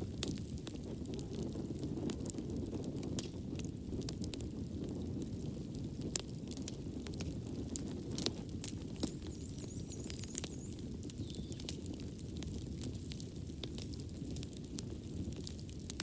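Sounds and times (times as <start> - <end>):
fire crackling and popping: 0.0 - 16.0
flames rumbling: 0.0 - 16.0.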